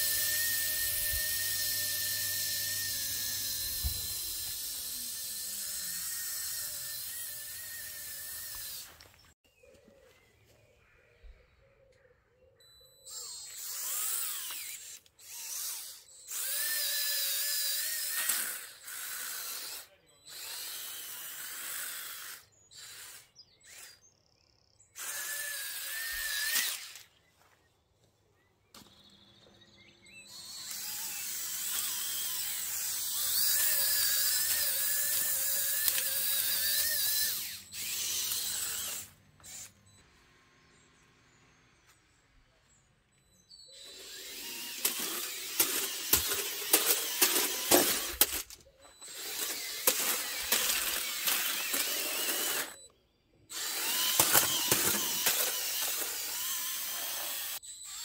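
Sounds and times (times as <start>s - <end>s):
toy tank motors whining: 0.0s - 9.3s, 13.0s - 24.1s, 25.0s - 27.2s, 29.7s - 58.0s.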